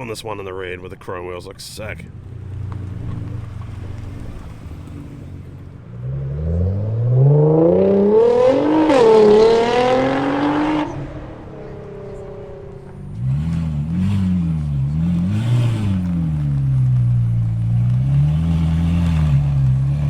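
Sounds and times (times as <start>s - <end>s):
car engine accelerating: 2.2s - 20.0s.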